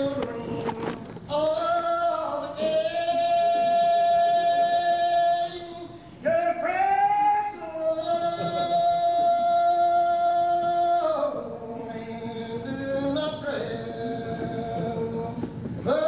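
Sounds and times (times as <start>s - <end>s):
unaccompanied hymn singing: 0.0s - 16.0s.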